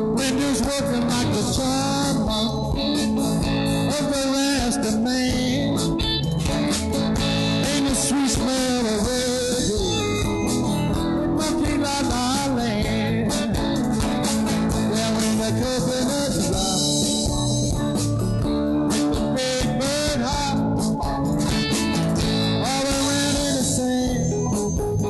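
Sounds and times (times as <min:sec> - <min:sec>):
live blues-rock band playing: 0:00.0 - 0:25.0.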